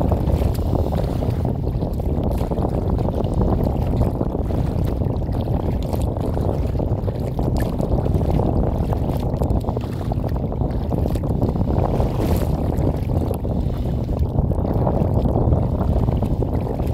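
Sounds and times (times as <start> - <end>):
water splashing against hull: 0.0 - 16.9
wind buffeting microphone: 0.0 - 16.9.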